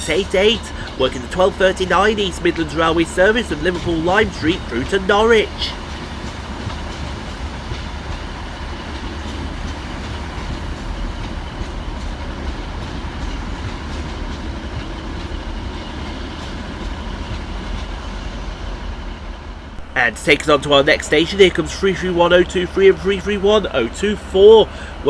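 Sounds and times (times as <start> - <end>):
train engines and wheels rumbling: 0.0 - 25.0.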